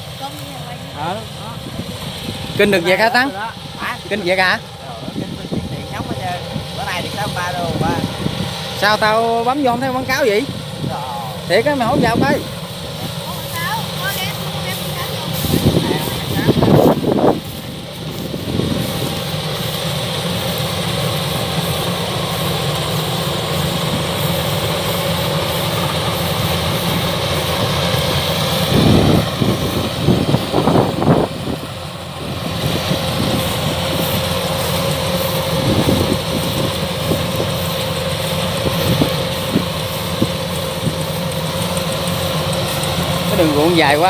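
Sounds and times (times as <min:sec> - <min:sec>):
combine harvester diesel engine: 0:00.0 - 0:44.0.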